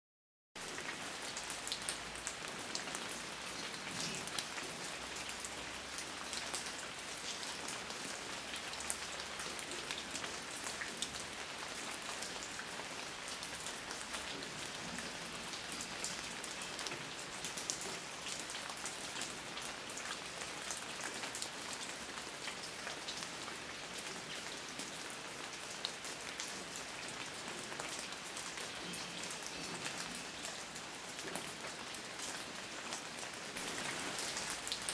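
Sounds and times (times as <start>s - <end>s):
steady rain on leaves: 0.6s - 34.9s
small raindrop ticks: 0.8s - 34.9s.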